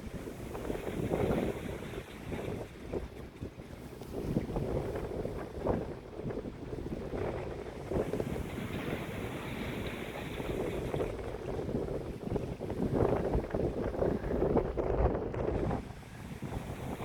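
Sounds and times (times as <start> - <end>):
sea noise: 0.0 - 17.0
wind gusting on microphone: 0.0 - 17.0.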